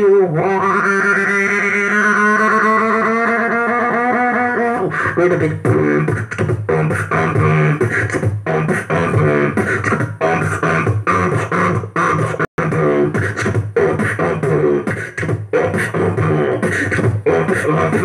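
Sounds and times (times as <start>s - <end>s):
man beatboxing: 0.0s - 18.0s.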